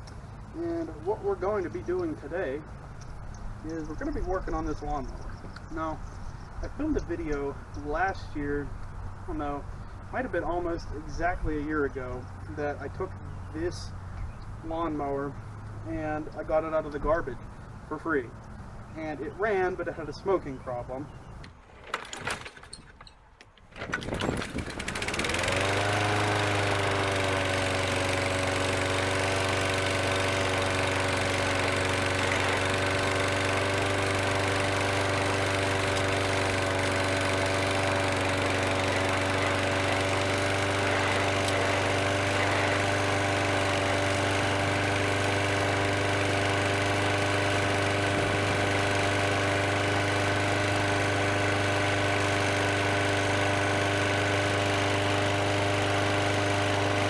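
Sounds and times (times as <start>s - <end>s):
lawn mower engine pull-started: 0.0s - 57.0s.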